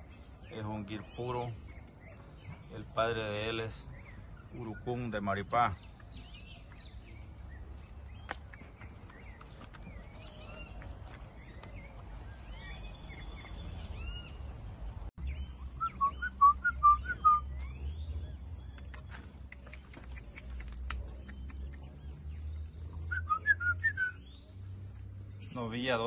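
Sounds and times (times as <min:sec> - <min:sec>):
birds whistling: 0:00.0 - 0:26.0.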